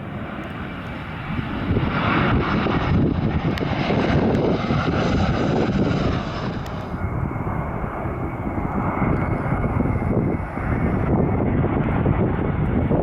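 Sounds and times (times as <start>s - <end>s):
jet engine hiss: 0.0s - 11.4s
airliner engine rumble: 0.0s - 13.0s.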